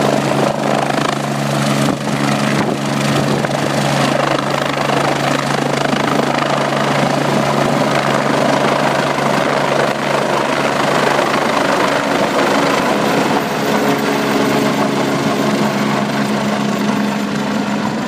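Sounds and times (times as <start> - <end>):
helicopter lifting off: 0.0 - 18.0.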